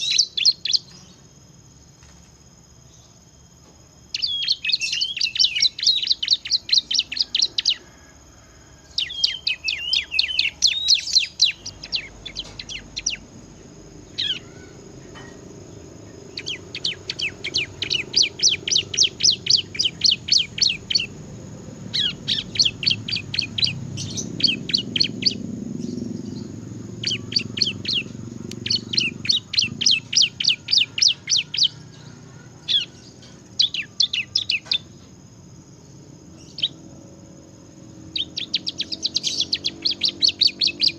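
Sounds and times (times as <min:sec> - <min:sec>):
bird singing rattling trills: 0:00.0 - 0:02.0, 0:02.7 - 0:40.9.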